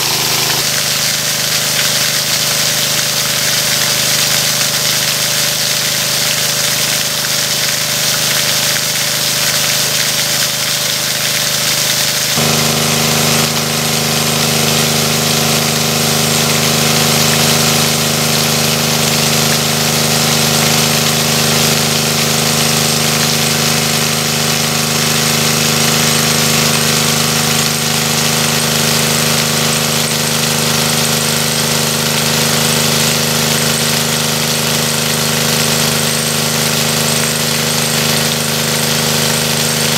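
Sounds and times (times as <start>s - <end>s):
water gushing from pipe: 0.0s - 39.9s
water pump engine running: 0.0s - 39.9s.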